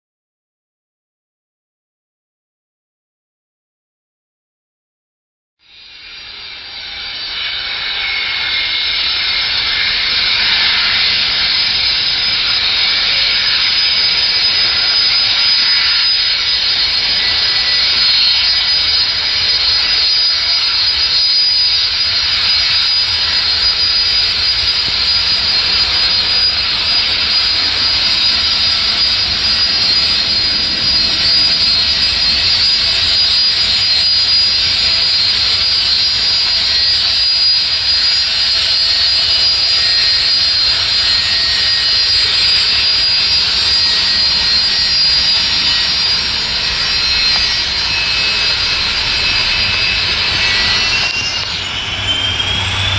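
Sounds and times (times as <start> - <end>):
jet engines whining: 5.8 - 52.9
rushing jet noise: 5.9 - 52.9.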